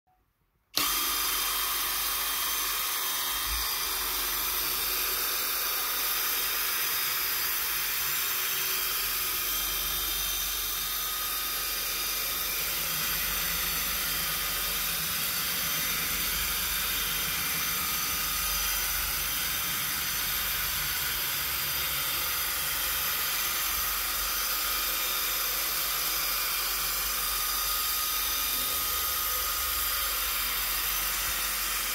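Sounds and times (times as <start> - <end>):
cordless drill motor whine: 0.8 - 31.9.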